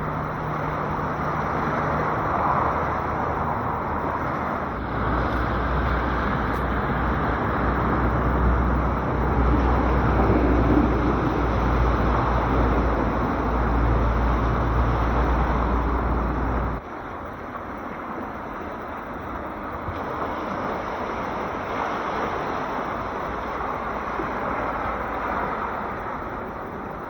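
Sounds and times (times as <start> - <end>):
sea waves washing onto shore: 0.0 - 27.0.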